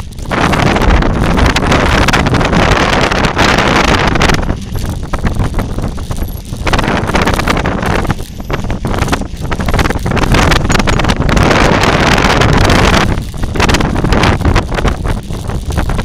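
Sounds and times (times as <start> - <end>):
bike rattling on rough trail: 0.0 - 16.0
wind buffeting microphone: 0.0 - 16.0.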